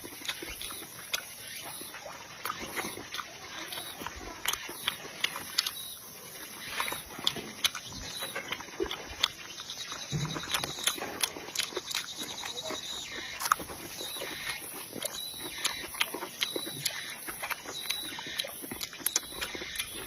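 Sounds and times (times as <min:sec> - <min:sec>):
person chewing and lip-smacking: 0:00.0 - 0:20.0.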